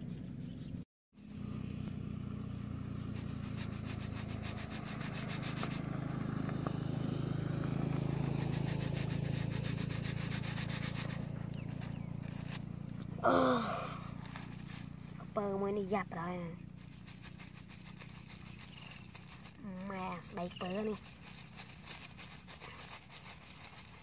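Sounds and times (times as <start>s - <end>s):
engine running steadily: 1.2s - 24.0s.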